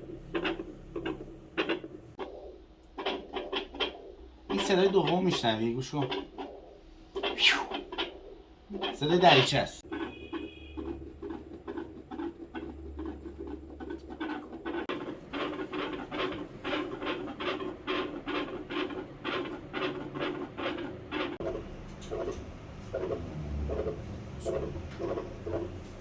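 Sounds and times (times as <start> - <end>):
stethoscope rubbing on fur: 0.0 - 26.0.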